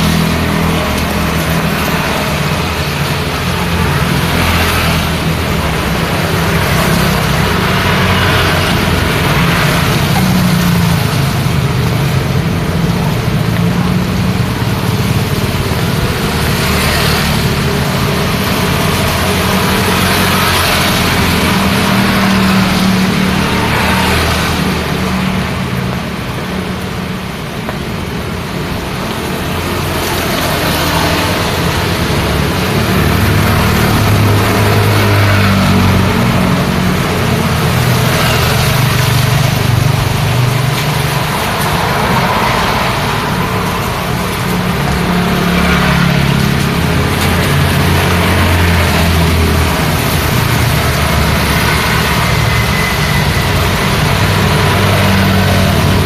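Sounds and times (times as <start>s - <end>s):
rain hissing: 0.0s - 56.0s
vehicles passing: 0.0s - 56.0s.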